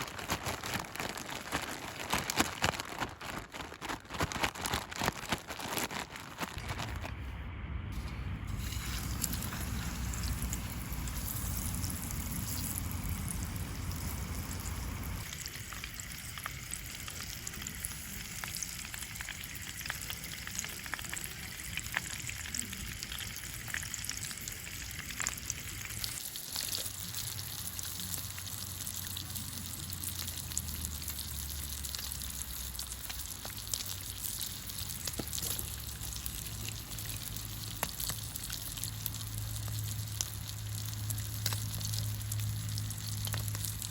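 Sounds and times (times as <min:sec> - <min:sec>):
food sizzling in a pan: 0:08.5 - 0:43.9.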